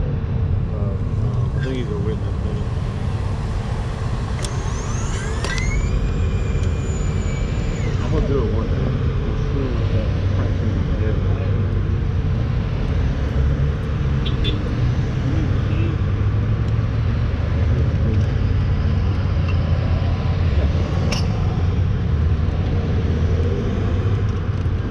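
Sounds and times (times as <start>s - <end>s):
cars driving past: 0.0s - 24.9s
low traffic rumble: 0.0s - 24.9s.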